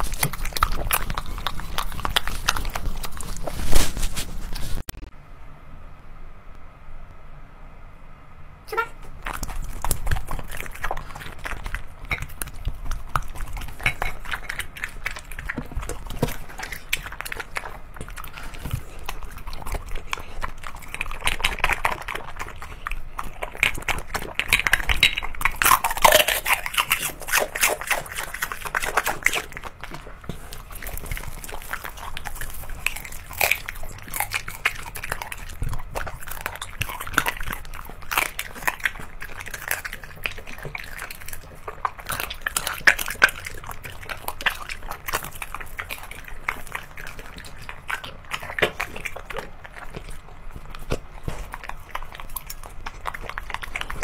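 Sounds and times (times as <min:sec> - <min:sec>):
dog chewing and smacking wetly: 0:00.0 - 0:04.9, 0:08.7 - 0:54.0.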